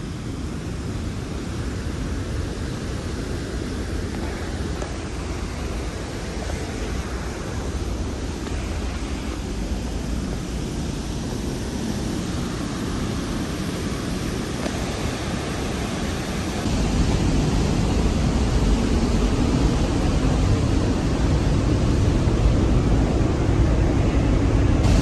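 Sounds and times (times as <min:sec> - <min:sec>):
waterfall rushing: 0:00.9 - 0:23.2, 0:24.2 - 0:25.0.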